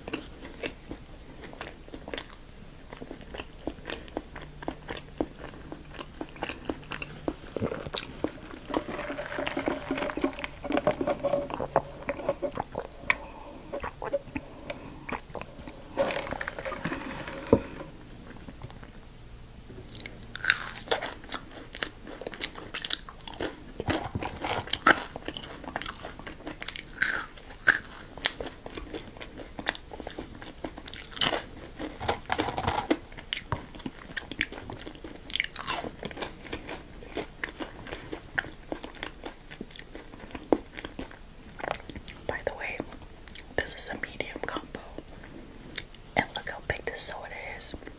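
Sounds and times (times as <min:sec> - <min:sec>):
biting and chewing food: 0:00.0 - 0:19.0, 0:19.7 - 0:43.6.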